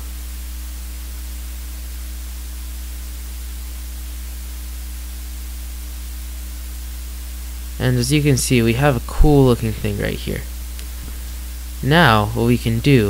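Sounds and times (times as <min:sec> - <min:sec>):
low electrical hum: 0:00.0 - 0:13.0
static hiss: 0:00.0 - 0:13.0.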